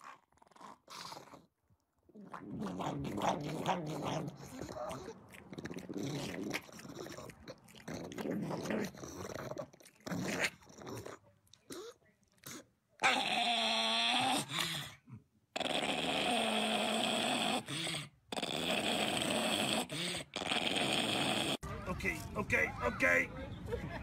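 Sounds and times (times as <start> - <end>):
dog grumbling and grunting: 2.1 - 21.6.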